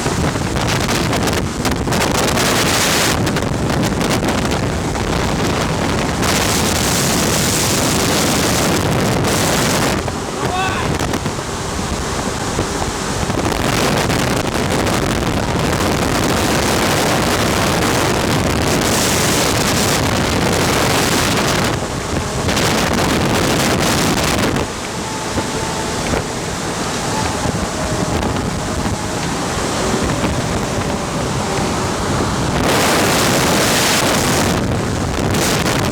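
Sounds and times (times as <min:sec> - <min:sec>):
ventilation fan air rush: 0:00.0 - 0:35.9
wind buffeting microphone: 0:00.0 - 0:35.9.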